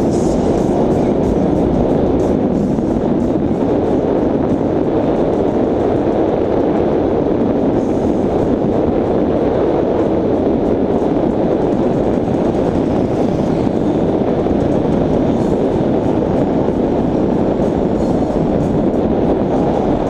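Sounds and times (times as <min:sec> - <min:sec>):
road noise: 0:00.0 - 0:20.0
wind rush: 0:00.0 - 0:20.0.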